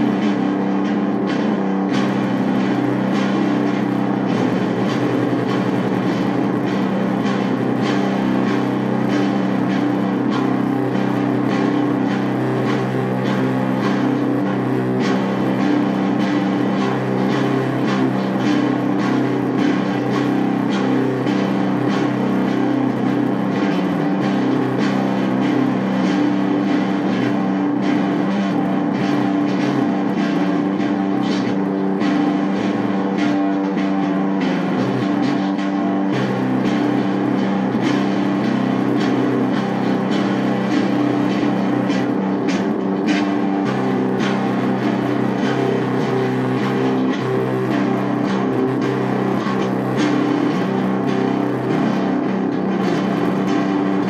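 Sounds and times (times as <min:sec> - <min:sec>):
rock music with electric guitar: 0:00.0 - 0:54.0.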